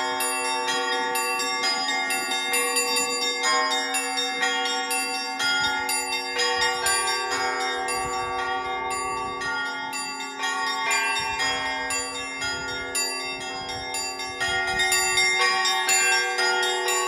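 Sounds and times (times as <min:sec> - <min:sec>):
large bell humming: 0:00.0 - 0:17.0
small church bells ringing: 0:00.0 - 0:17.0.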